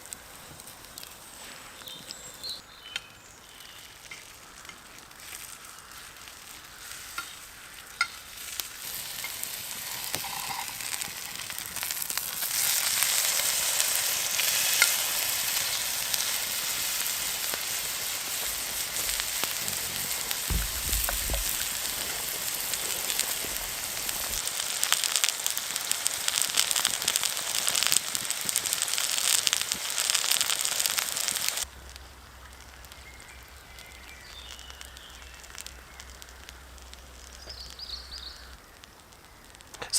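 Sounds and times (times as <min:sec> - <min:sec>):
food sizzling in a hot pan: 0:00.0 - 0:39.9.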